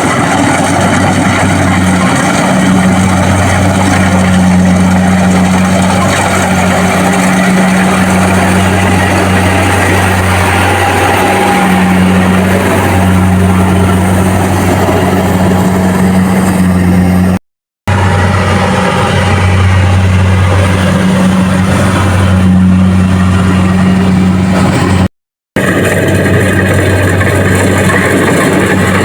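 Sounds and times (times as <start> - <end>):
combine harvester engine humming: 0.0 - 29.0.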